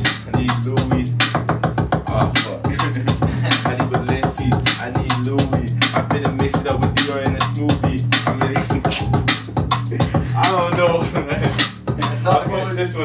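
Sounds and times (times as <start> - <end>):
hip hop beat: 0.0 - 13.0.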